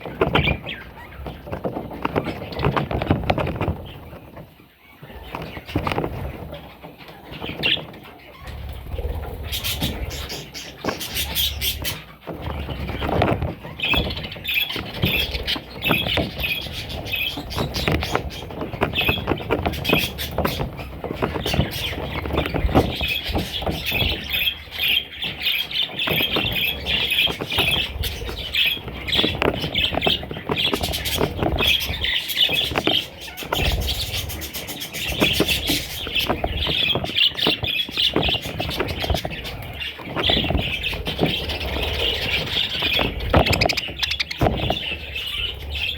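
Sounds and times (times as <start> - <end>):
bird chicks chirping and squawking: 0.0 - 45.9
scratching and rustling clicks: 0.0 - 45.9.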